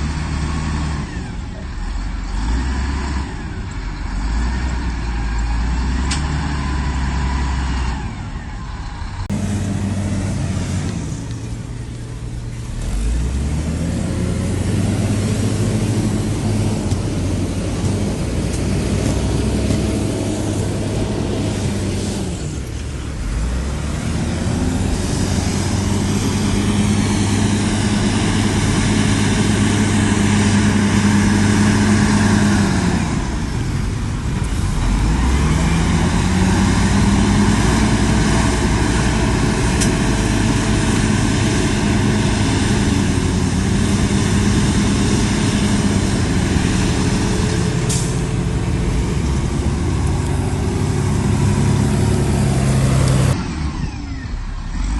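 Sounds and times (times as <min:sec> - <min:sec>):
heavy diesel engine under load: 0:00.0 - 0:54.9.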